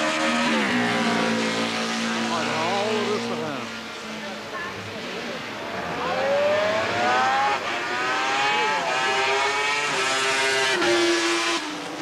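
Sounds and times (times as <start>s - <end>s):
motorcycle engine accelerating: 0.0s - 3.9s, 5.8s - 12.0s.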